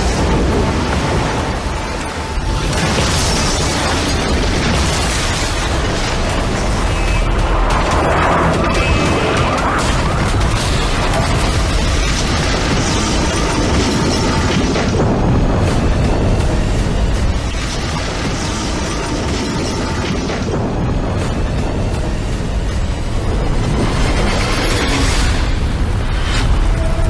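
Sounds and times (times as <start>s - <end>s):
action film music: 0.0s - 27.0s.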